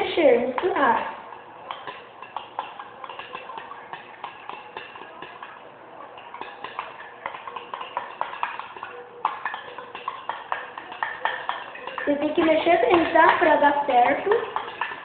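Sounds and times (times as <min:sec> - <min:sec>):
utensil stirring in container: 0:00.5 - 0:15.0.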